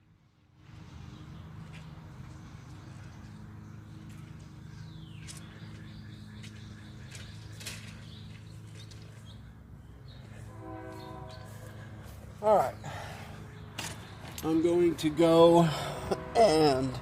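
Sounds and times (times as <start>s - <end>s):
birds chirping: 0.8s - 16.1s.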